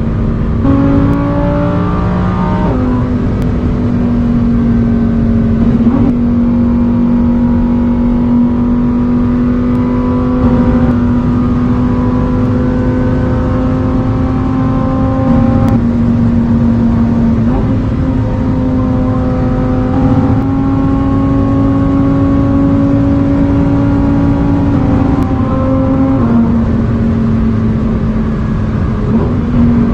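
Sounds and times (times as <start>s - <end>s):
sports car engine running: 0.0s - 29.9s.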